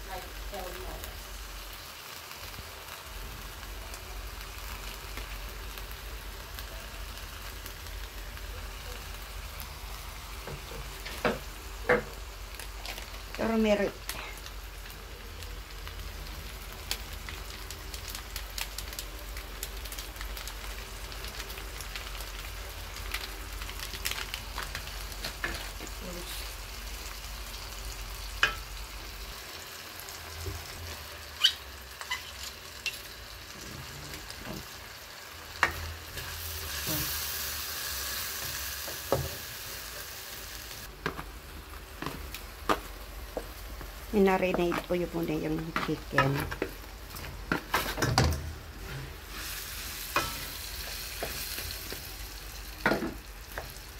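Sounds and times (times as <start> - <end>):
vegetables sizzling in oil: 0.0 - 53.9.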